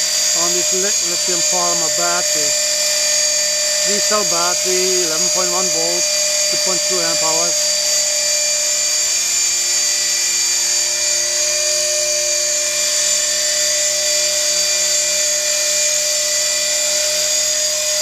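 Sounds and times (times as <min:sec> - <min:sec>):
high-pitched motor whine: 0:00.0 - 0:18.0
rotor blades humming: 0:00.0 - 0:18.0.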